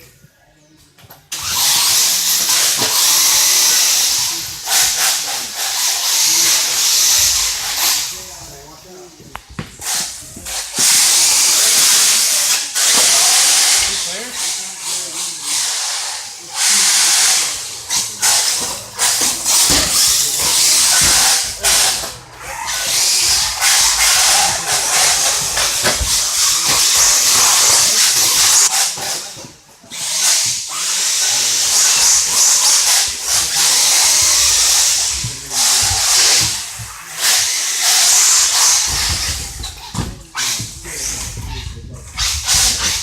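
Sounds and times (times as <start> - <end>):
rc cars hissing: 1.3 - 43.0.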